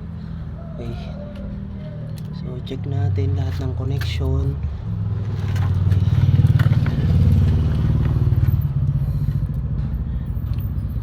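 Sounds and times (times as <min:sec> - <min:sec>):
engine running with pulsing rumble: 0:01.4 - 0:11.0.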